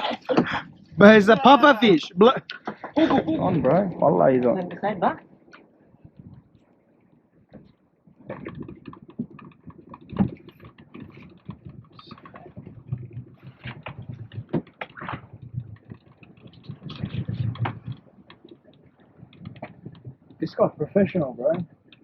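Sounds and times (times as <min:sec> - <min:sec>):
low hum: 0:00.0 - 0:21.8
fishing gear clicking and knocking: 0:00.3 - 0:22.0.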